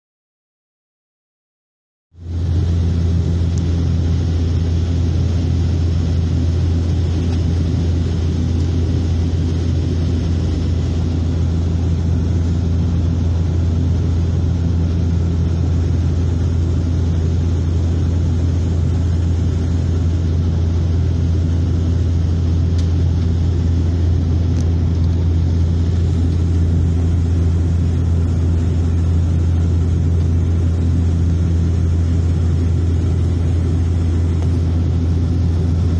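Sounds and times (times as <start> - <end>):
propeller drone: 2.2 - 35.9.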